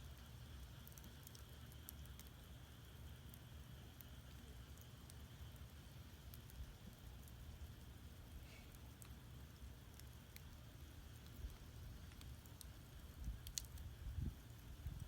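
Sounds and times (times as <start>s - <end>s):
firewood crackling and popping: 0.0s - 15.0s
low fire rumble: 0.0s - 15.0s.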